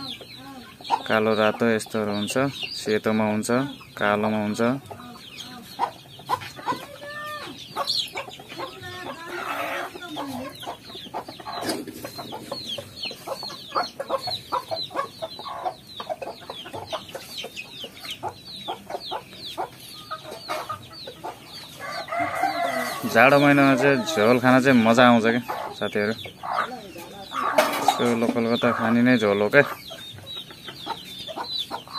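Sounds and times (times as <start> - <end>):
chicken calls: 0.0 - 31.9
chicks peeping: 0.0 - 31.9
hens clucking: 0.0 - 31.9.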